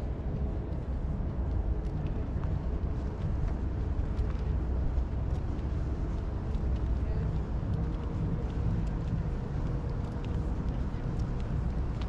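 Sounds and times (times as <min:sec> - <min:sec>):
city ambience rumble: 0:00.0 - 0:12.0.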